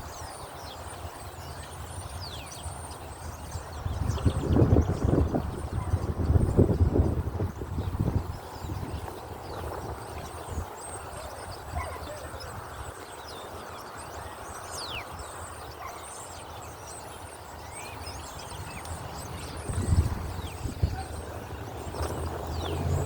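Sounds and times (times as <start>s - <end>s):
wind buffeting microphone: 2.2s - 15.9s, 17.3s - 23.0s.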